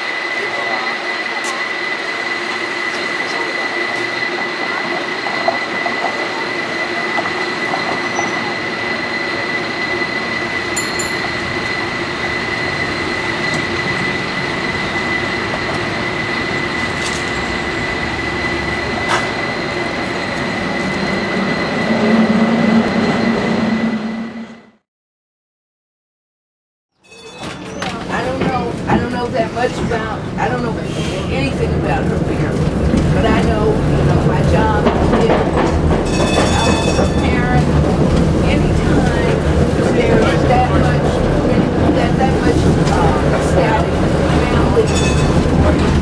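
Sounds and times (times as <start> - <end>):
high-pitched train whine: 0.0 - 24.8, 27.0 - 46.0
rumbling track noise: 0.0 - 24.8, 27.5 - 46.0.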